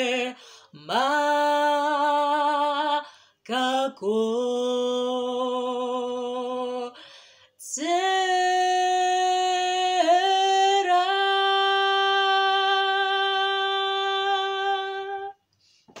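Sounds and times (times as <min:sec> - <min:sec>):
woman singing unaccompanied: 0:00.0 - 0:07.0, 0:07.6 - 0:15.4.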